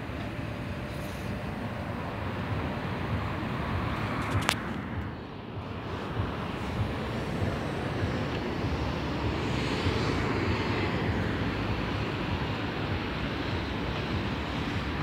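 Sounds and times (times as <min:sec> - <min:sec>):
city street rumble: 0:00.0 - 0:15.0.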